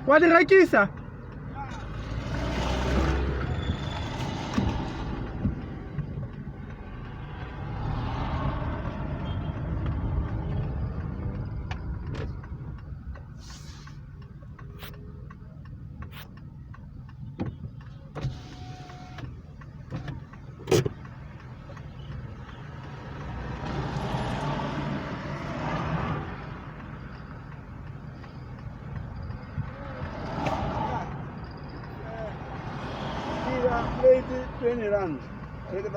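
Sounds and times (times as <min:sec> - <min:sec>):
car engine rumbling: 0:00.0 - 0:35.9
vehicles passing: 0:00.0 - 0:35.9
sharp clicks and knocks: 0:00.9 - 0:33.2.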